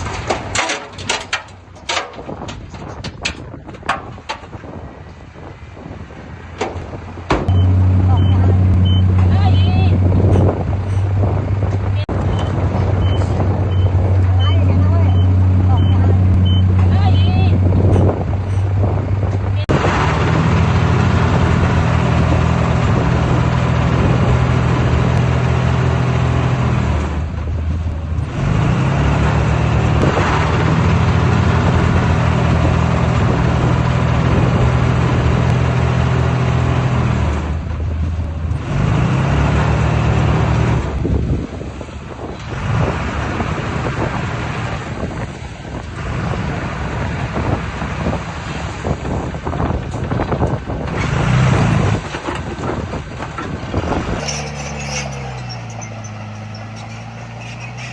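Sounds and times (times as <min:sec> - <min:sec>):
diesel earthmover engine drone: 0:06.4 - 0:57.9.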